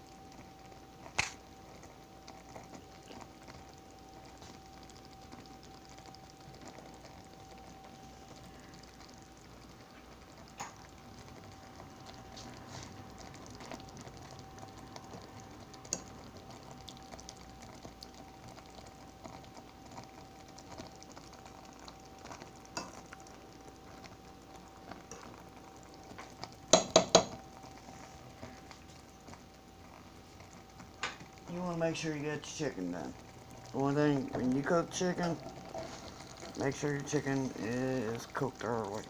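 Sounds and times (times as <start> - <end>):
faint bubbling sizzle: 0.0 - 39.0
steady hum: 0.0 - 39.0.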